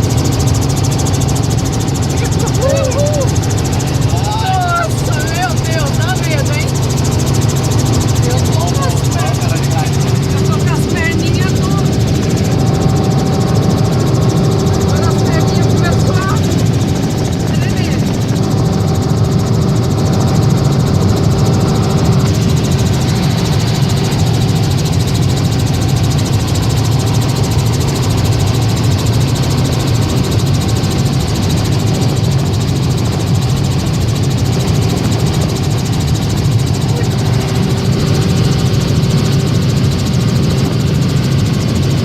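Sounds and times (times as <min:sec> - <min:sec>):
faint steady whine: 0:00.0 - 0:41.9
helicopter engine and rotor drone: 0:00.0 - 0:42.0.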